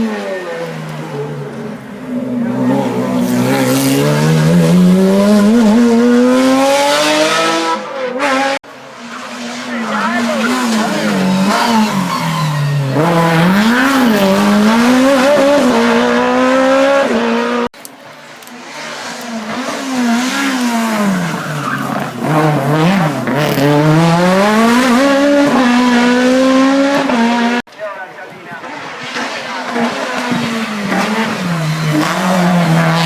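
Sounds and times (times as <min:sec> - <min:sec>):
race car engine revving: 0:00.0 - 0:08.6, 0:09.3 - 0:17.7, 0:18.6 - 0:27.7, 0:28.6 - 0:33.0.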